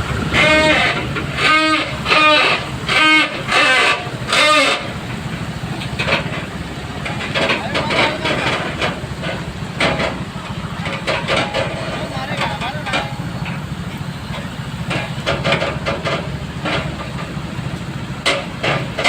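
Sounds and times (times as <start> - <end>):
heavy vehicle engines rumbling: 0.0 - 19.0.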